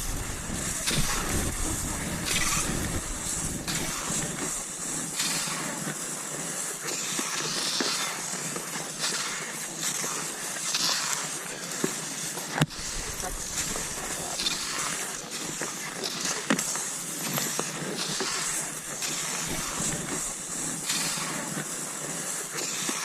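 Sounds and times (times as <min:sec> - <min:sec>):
skis swishing over snow: 0:00.0 - 0:23.0.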